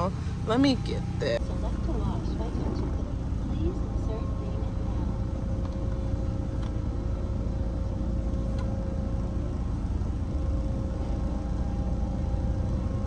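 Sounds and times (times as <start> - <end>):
car engine idling: 0.0 - 13.0
faint steady hum: 0.0 - 13.0.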